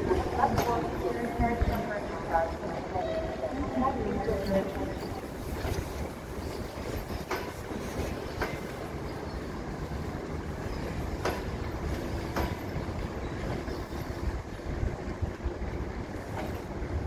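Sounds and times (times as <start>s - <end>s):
wheel clacks over rail joints: 0.0s - 2.3s, 4.3s - 14.8s, 15.7s - 17.0s
train coaches rumbling on tracks: 0.0s - 17.0s.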